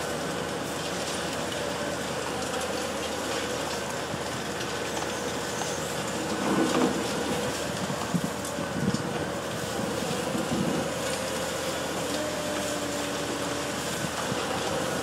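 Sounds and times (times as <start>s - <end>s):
demolition excavator machine noise: 0.0s - 15.0s.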